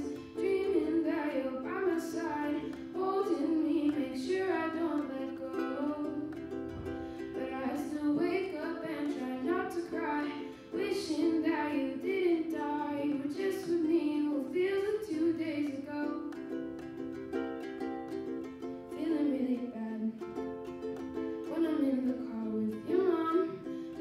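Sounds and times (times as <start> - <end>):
young woman singing: 0.0 - 16.6, 18.2 - 24.0
ukulele strumming chords: 0.0 - 24.0.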